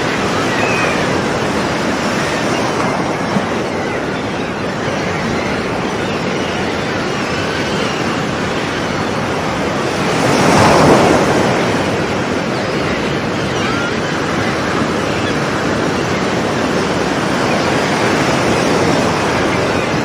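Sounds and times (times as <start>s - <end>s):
waves crashing against rocks: 0.0s - 20.0s.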